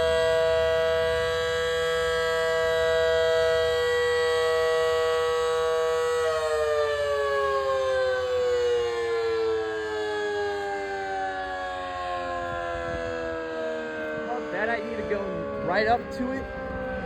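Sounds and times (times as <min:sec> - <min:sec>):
warning siren winding down: 0:00.0 - 0:17.0.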